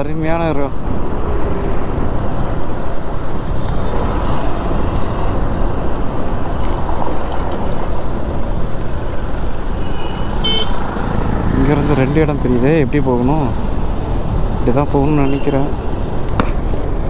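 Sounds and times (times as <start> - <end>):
motorcycle road noise: 0.0 - 17.0.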